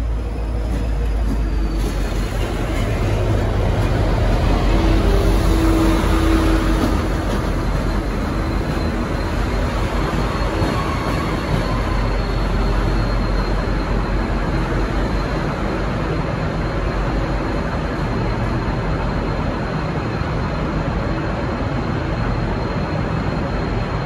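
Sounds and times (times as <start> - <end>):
diesel locomotive engine rumble: 0.0 - 24.0.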